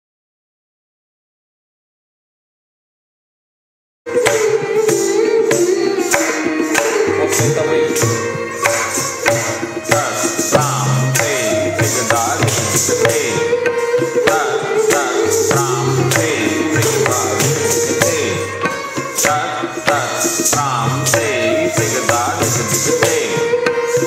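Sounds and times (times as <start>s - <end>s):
held melodic accompaniment: 4.1s - 23.9s
tabla drumming: 4.1s - 24.0s.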